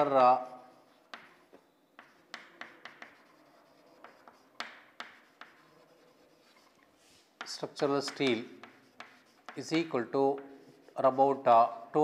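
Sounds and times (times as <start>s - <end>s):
chalk tapping and scratching on board: 0.0s - 11.4s.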